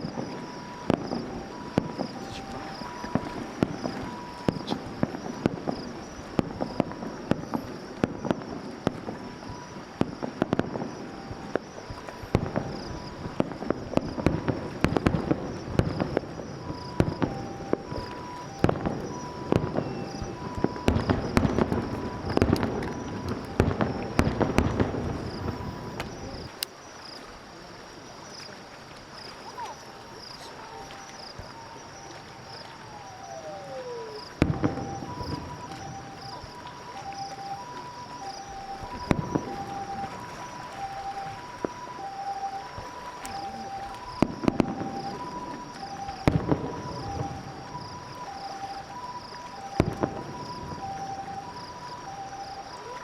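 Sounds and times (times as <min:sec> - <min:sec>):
fireworks exploding: 0:00.0 - 0:26.7, 0:29.2 - 0:53.0.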